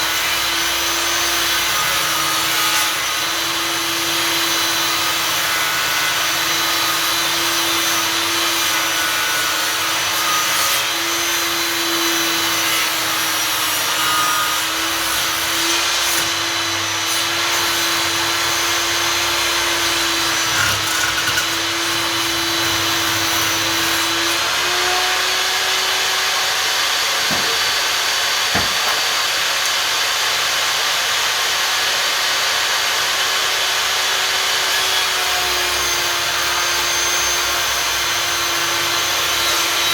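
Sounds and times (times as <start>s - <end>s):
table saw cutting wood: 0.0s - 39.9s.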